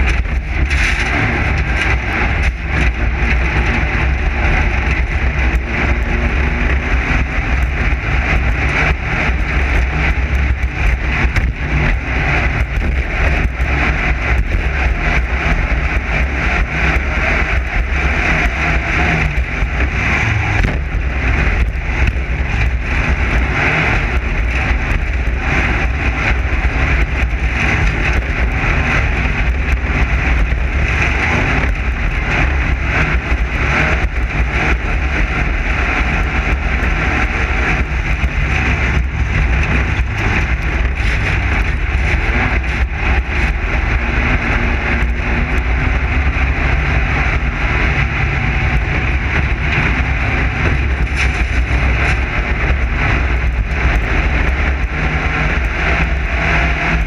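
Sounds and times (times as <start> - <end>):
race car engine running: 0.0 - 57.0
wind and road noise: 0.0 - 57.0.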